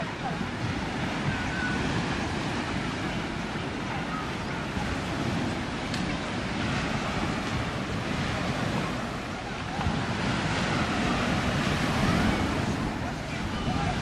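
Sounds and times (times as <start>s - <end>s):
sea surf rushing: 0.0s - 14.0s
wind buffeting microphone: 0.0s - 14.0s.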